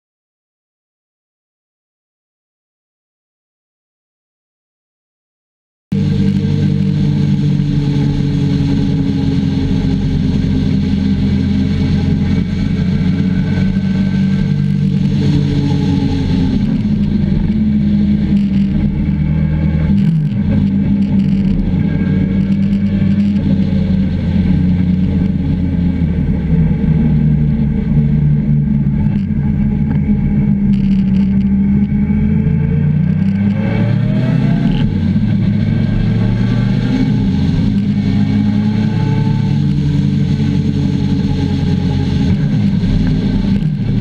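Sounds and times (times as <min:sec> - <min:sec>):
motorcycle engine running: 0:05.9 - 0:44.0
wind noise: 0:06.0 - 0:44.0.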